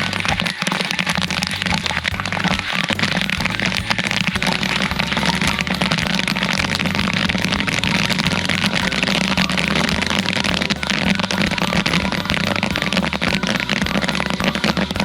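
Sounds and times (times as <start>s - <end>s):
popcorn popping: 0.0s - 15.0s
popper machine hum: 0.0s - 15.0s.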